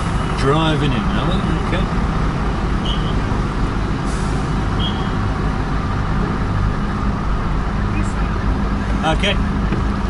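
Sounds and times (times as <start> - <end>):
truck diesel engine running: 0.0 - 10.0.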